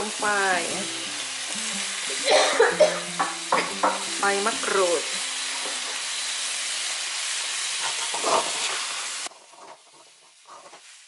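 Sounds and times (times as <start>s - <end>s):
seafood sizzling in a wok: 0.0s - 11.0s.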